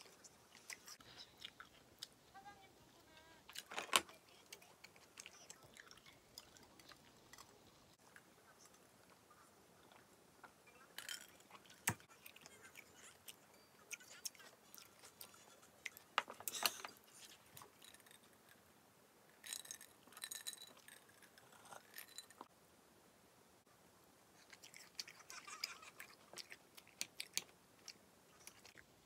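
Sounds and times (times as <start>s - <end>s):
soft chewing: 0.0s - 18.7s, 24.3s - 29.0s.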